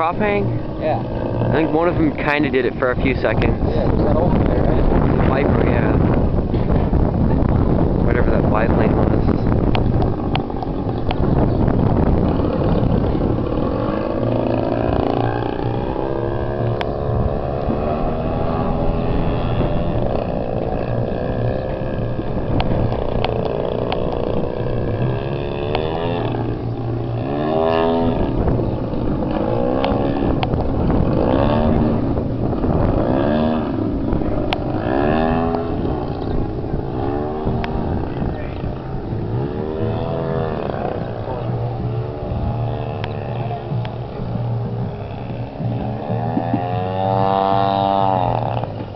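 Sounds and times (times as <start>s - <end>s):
model plane engine: 8.5s - 48.9s.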